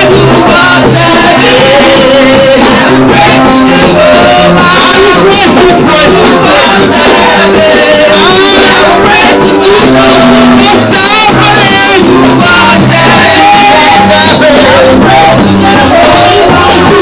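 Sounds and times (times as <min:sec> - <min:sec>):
gospel music with group singing: 0:00.0 - 0:17.0.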